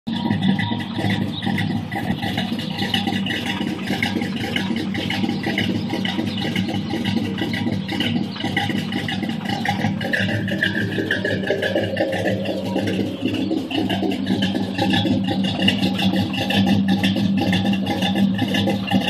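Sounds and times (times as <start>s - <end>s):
choppy engine idling: 0.0s - 19.0s.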